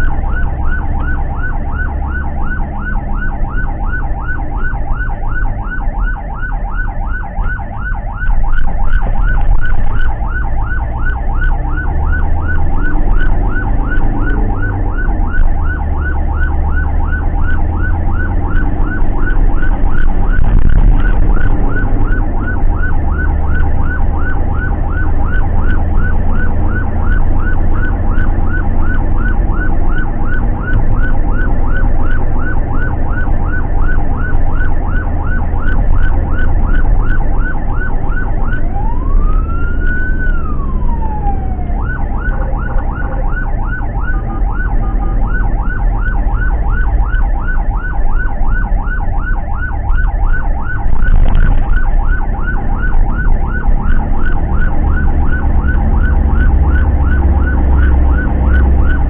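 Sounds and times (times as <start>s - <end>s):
ambulance siren yelping: 0.0s - 59.0s
engine and road rumble: 0.0s - 59.0s
siren slow wail: 0.0s - 59.0s.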